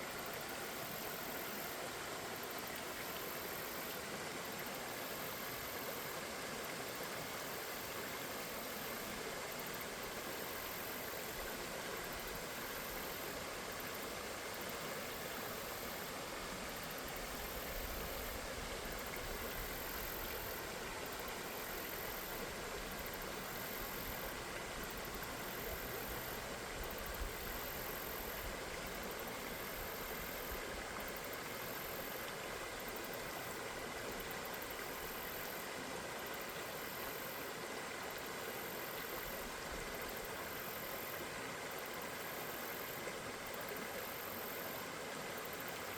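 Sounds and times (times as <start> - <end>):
river water flowing: 0.0 - 45.9.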